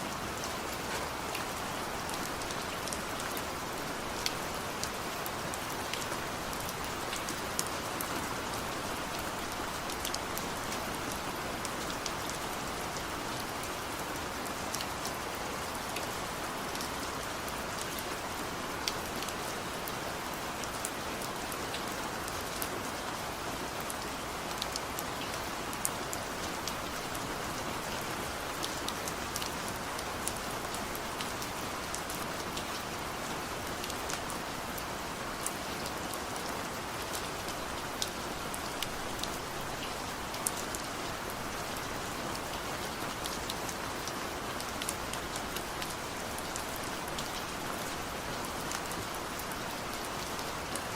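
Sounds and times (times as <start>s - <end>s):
steady rain hiss: 0.0s - 50.9s.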